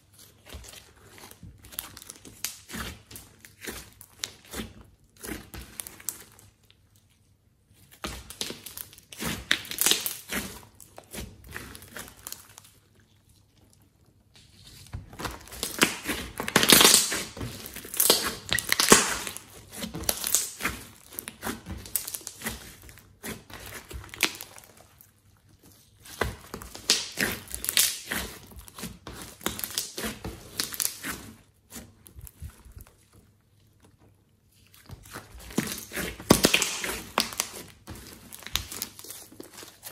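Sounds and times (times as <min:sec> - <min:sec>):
slime squishing and crackling: 0:00.0 - 0:39.9.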